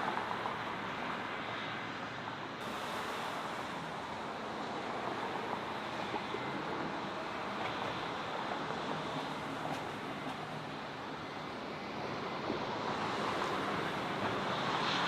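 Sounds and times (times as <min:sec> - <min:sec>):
jet engines rushing: 0:02.6 - 0:15.0.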